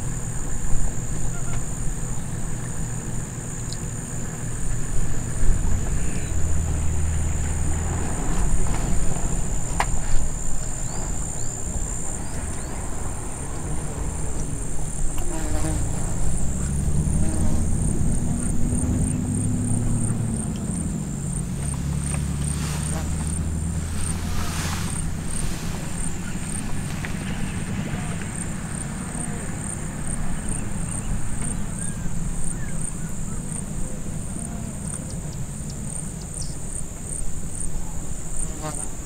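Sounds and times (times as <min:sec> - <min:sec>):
insects buzzing: 0:00.0 - 0:39.0
vehicle engine rumble: 0:00.0 - 0:39.0.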